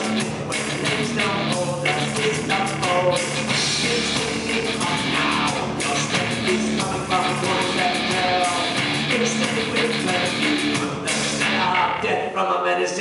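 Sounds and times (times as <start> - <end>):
rock band playing live: 0.0 - 12.1
singer on microphone: 0.0 - 13.0.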